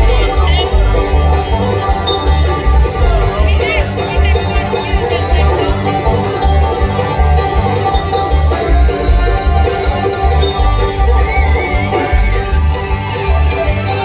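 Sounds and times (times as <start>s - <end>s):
banjo picking: 0.0s - 14.0s
mandolin: 0.0s - 14.0s
upright bass: 0.0s - 14.0s.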